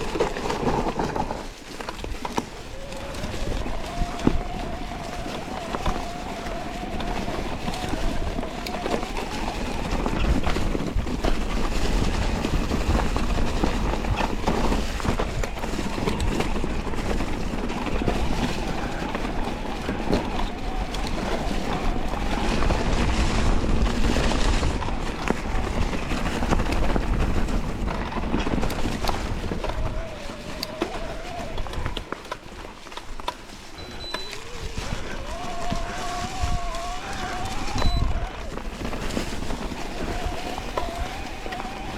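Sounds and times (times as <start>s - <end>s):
bike rattling and knocking: 0.0s - 41.9s
tyres rolling over dirt and stones: 0.0s - 41.9s
wind on microphone: 0.0s - 41.9s.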